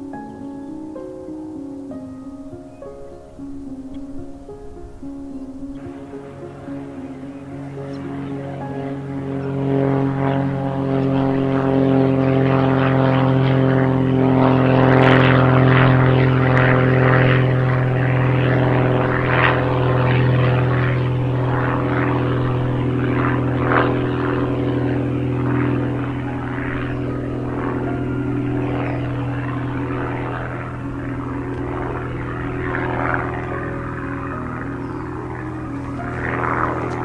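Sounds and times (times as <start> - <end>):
propeller airplane engine running: 0.0 - 37.0.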